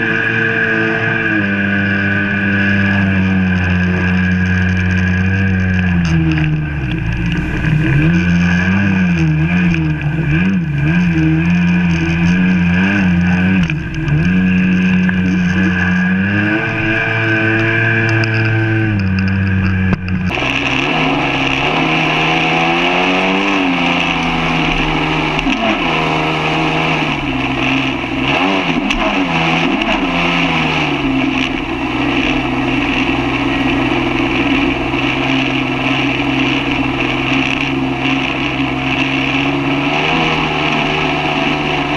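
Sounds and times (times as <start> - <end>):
watercraft engine running: 0.0 - 41.9
wind: 0.0 - 41.9.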